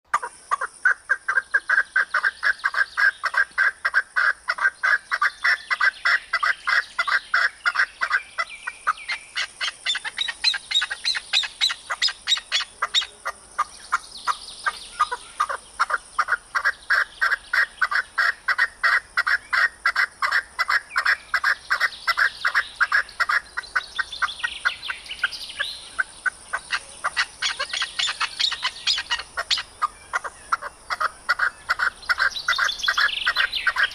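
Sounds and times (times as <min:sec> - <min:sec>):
bird chirps: 0:00.1 - 0:33.9
partridge clucking calls: 0:00.1 - 0:33.9.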